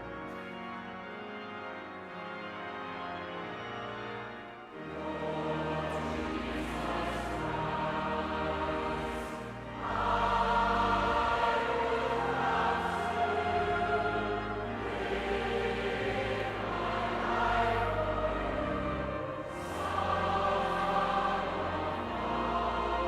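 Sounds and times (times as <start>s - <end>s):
choir singing sacred music: 0.0s - 23.0s
sustained low accompaniment: 0.0s - 23.0s.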